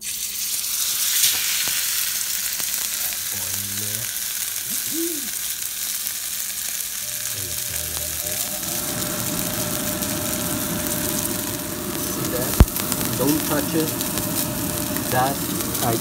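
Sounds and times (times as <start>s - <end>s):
fish sizzling in frying pan: 0.0s - 16.0s.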